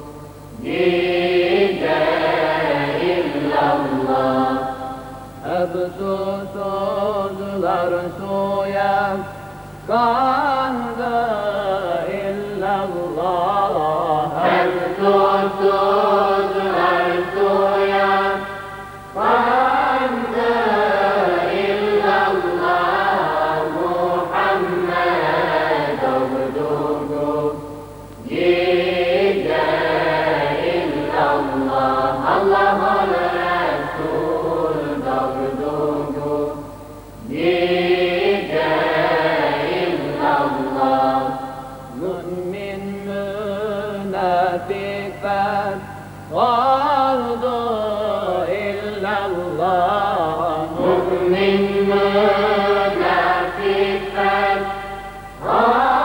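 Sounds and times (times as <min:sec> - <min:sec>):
choir singing a hymn: 0:00.0 - 0:56.0
steady low hum: 0:00.0 - 0:56.0.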